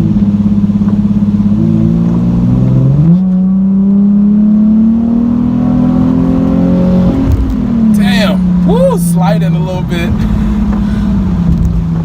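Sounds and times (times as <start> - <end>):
car engine exhaust revving: 0.0 - 12.0.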